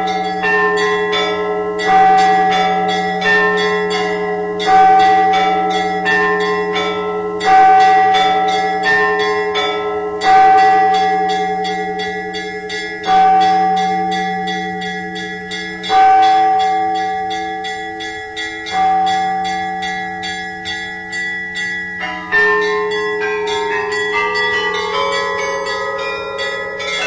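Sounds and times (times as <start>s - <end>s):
deep church bell ringing: 0.0s - 27.0s
small bells chiming quickly: 0.0s - 27.0s.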